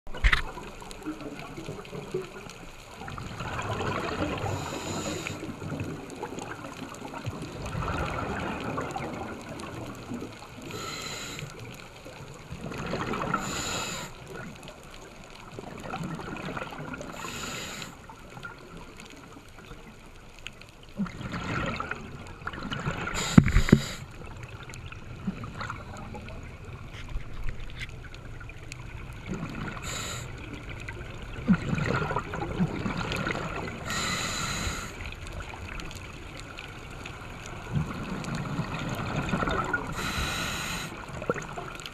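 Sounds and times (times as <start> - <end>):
exhaled bubbles gurgling: 0.1 - 20.2, 20.8 - 41.9
murmur of water: 0.1 - 41.9.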